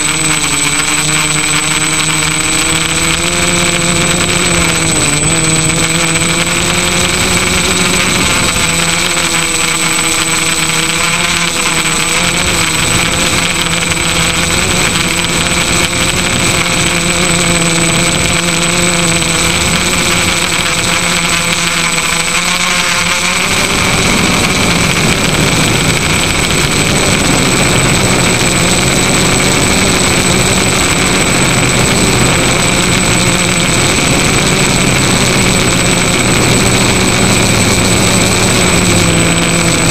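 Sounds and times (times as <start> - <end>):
drone motors buzzing whine: 0.0 - 39.9.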